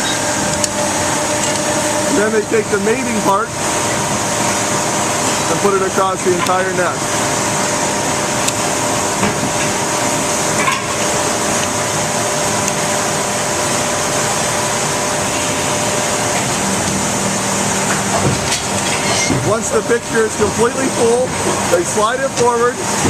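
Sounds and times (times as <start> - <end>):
constant hums: 0.0 - 23.0
factory machinery noise: 0.0 - 23.0.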